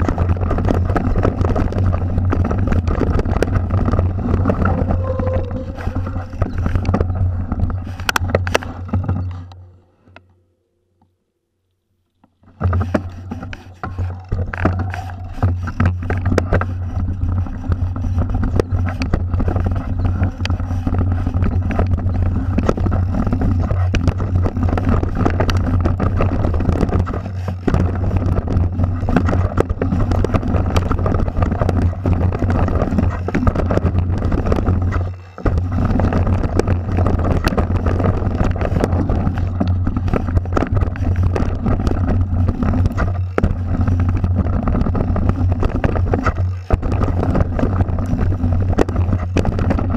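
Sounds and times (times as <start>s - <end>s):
wind rumble on microphone: 0.0s - 9.6s, 12.5s - 49.9s
bike clattering and rattling: 0.0s - 9.8s, 12.2s - 49.9s.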